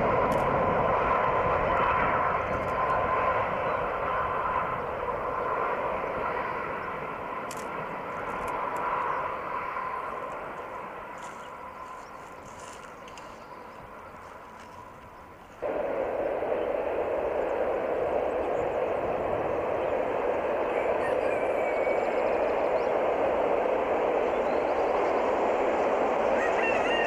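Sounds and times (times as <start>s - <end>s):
faint steady whine: 0.0s - 26.9s
distant train running: 0.0s - 27.0s
electric locomotive running noise: 0.0s - 27.0s.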